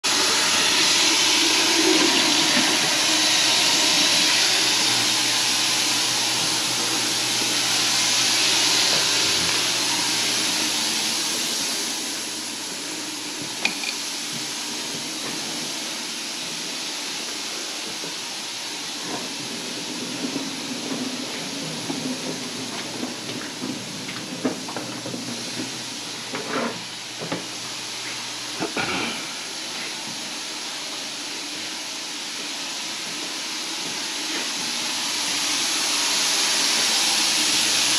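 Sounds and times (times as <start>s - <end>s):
rushing water hiss: 0.0s - 37.9s.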